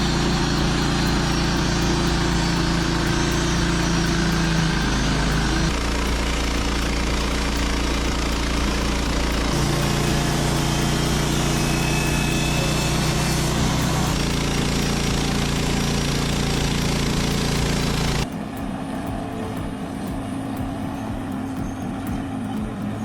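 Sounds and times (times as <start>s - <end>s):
machine engine running: 0.0s - 23.0s
uneven mechanical noise: 0.0s - 23.0s.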